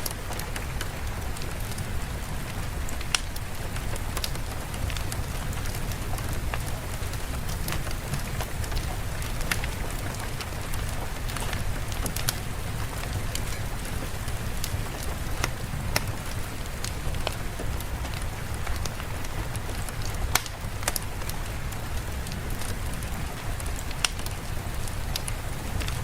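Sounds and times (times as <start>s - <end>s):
steady rain: 0.0s - 26.0s
wood fire crackling and popping: 0.0s - 26.0s.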